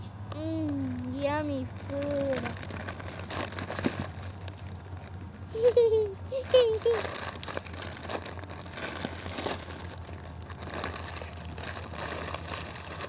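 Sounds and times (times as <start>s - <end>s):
low steady hum: 0.0s - 13.0s
snack bag crinkling: 0.6s - 5.8s, 6.5s - 13.0s.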